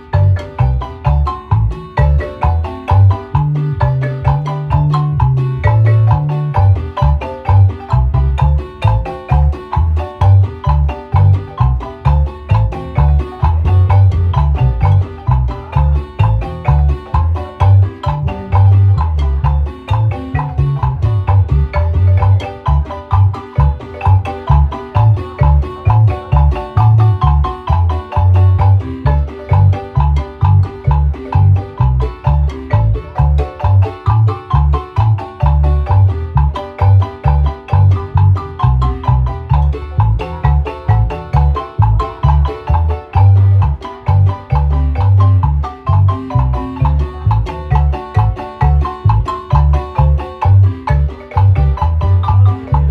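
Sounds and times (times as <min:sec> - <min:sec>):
marimba music: 0:00.0 - 0:52.9.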